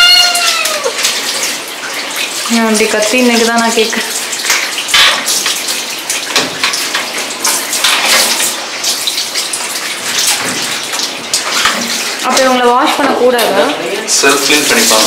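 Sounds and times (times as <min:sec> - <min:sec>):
shower water running: 0:00.0 - 0:15.0
water splashes: 0:00.0 - 0:15.0.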